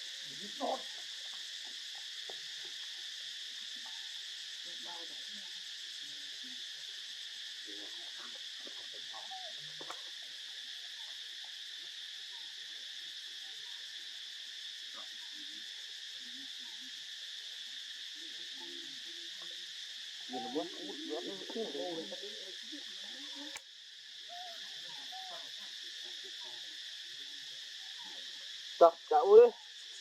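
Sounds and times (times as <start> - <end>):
faint scattered sounds: 0.0 - 30.0
insects shrilling: 0.0 - 30.0.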